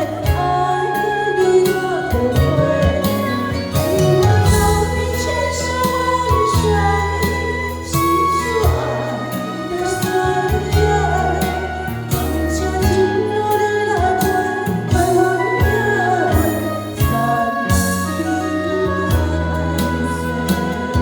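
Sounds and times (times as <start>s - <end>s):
bass and keyboard notes: 0.0s - 21.0s
regular drum beat: 0.0s - 21.0s
woman singing a slow ballad: 0.0s - 21.0s.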